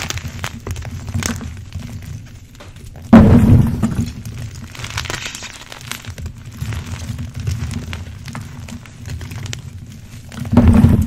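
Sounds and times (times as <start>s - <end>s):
crackling of chalk chunks: 0.0s - 11.0s
hands crushing chalk: 0.0s - 11.0s.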